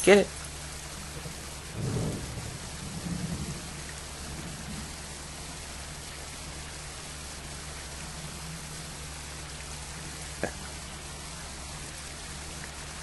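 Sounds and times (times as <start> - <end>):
steady background hiss: 0.0 - 13.0
low hum: 0.4 - 13.0.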